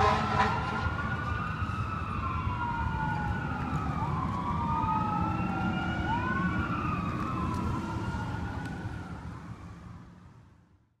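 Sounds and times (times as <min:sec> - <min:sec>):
fire engine siren wailing: 0:00.0 - 0:10.5
engine and road rumble: 0:00.0 - 0:10.9.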